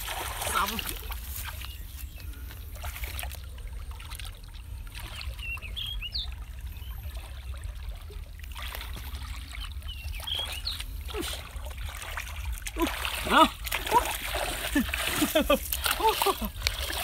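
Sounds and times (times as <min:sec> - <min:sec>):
hands sloshing in muddy water: 0:00.0 - 0:17.0.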